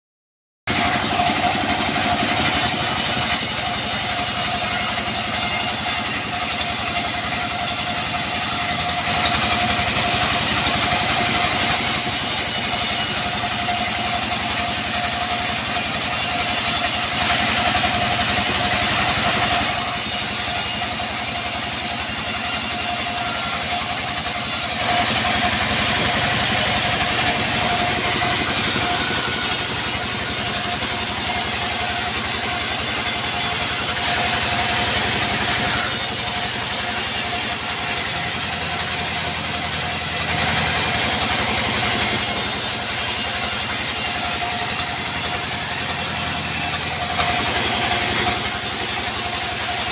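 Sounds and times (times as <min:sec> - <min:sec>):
bandsaw cutting log: 0:00.7 - 0:49.9
steady saw whine: 0:00.7 - 0:49.9.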